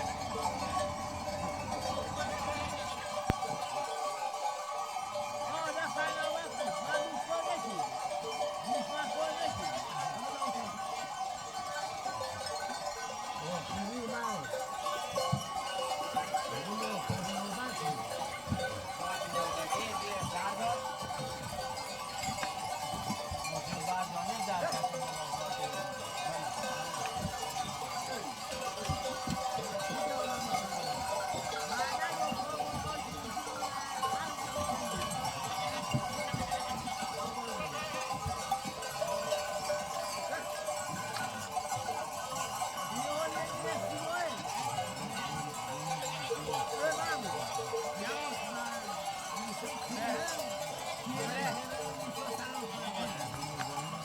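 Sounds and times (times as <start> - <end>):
goat bells clinking: 0.0 - 54.0.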